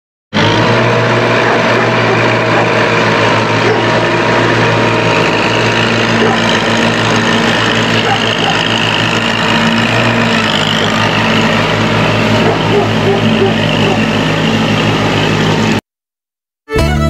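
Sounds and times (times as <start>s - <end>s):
tractor diesel engine running: 0.4s - 15.8s.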